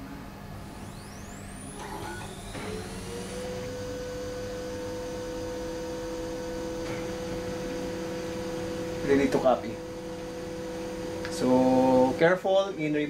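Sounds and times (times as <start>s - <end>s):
photocopier motors whining: 0.0s - 13.0s.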